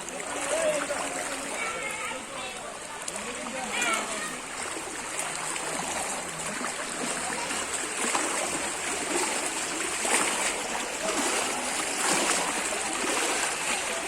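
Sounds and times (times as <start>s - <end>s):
floodwater flowing: 0.0s - 14.0s
water splashes: 0.0s - 14.0s.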